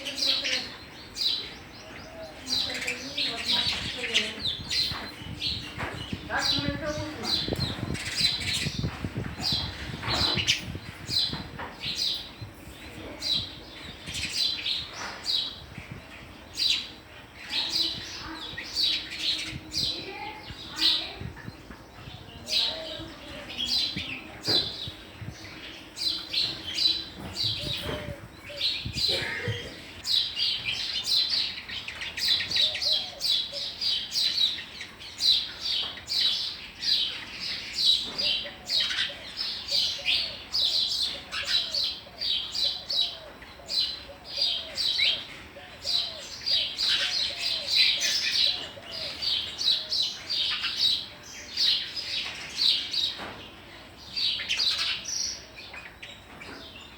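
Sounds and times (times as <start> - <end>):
sparrows chirping: 0.0 - 56.9.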